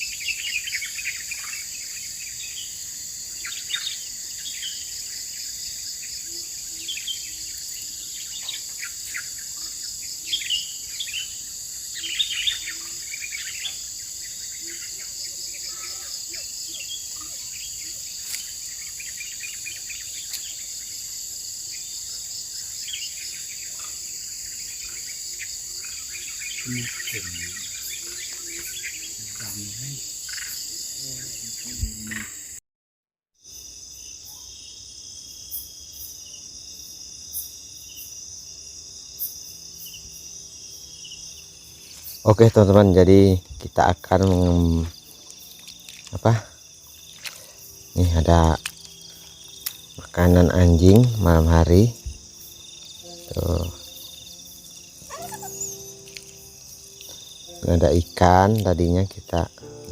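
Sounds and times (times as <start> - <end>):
bird chirps: 0.0 - 21.1, 21.7 - 32.6, 41.1 - 59.9
insects chorus: 0.0 - 32.6, 33.4 - 59.9.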